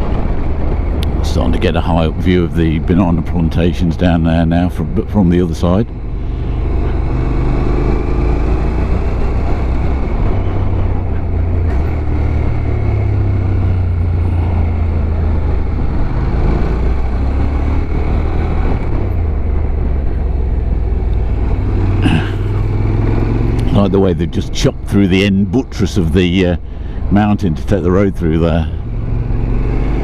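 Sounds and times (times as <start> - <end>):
motorcycle engine droning: 0.0 - 30.0
road noise: 0.0 - 30.0
rushing wind: 0.0 - 30.0.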